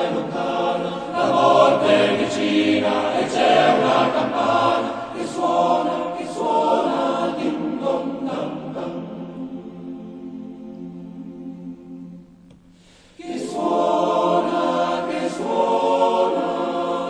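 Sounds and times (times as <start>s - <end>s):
choir singing slow song: 0.0s - 17.0s.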